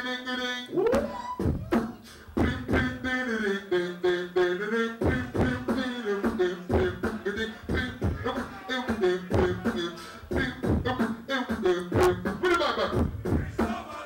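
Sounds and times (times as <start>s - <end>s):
person beatboxing: 0.7s - 14.0s.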